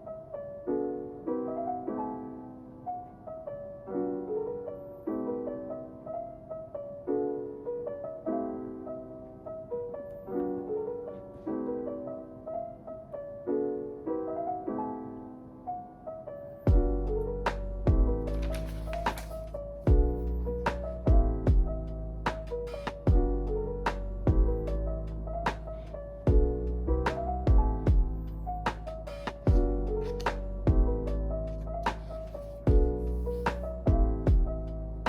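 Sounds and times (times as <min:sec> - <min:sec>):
soft piano chords: 0:00.0 - 0:35.0.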